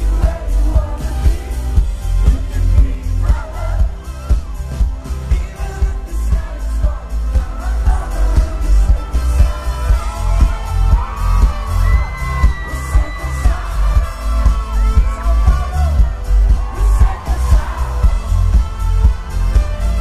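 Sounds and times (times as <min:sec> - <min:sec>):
heavy bass beat: 0:00.0 - 0:20.0
man singing: 0:00.0 - 0:20.0
trumpet: 0:00.0 - 0:20.0.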